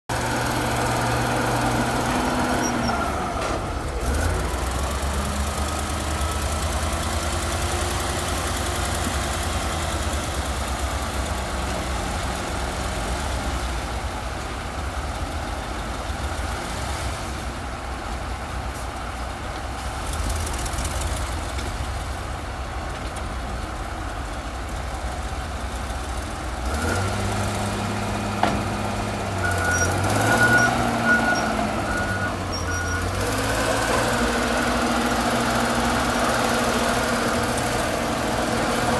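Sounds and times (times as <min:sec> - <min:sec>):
heavy diesel engines running: 0:00.1 - 0:38.9.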